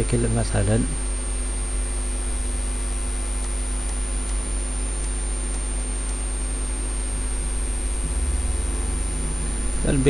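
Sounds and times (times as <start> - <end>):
steady electrical hum: 0.0 - 10.0
thin high whine: 0.0 - 10.0.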